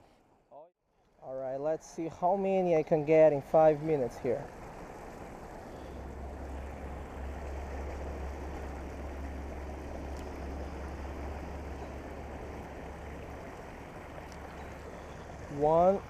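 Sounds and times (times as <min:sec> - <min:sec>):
low steady rumble: 0:01.0 - 0:16.0
water rushing over a weir: 0:01.8 - 0:16.0.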